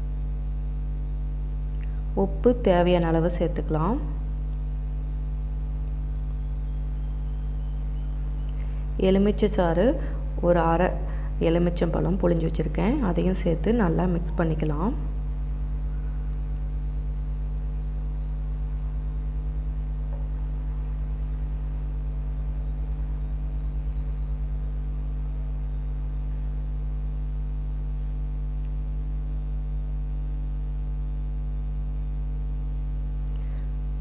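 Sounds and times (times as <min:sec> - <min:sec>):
electrical mains hum: 0:00.0 - 0:34.0.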